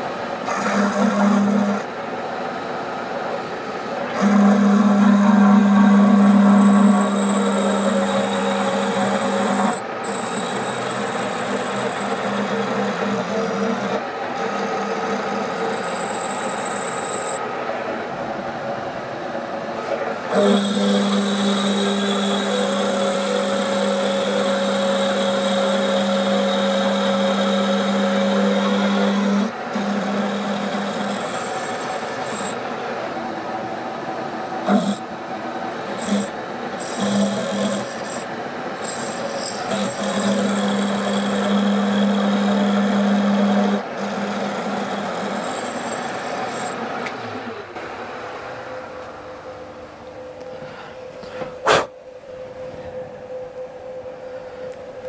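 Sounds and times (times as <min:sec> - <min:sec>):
milling machine humming and whining: 0:00.0 - 0:55.0.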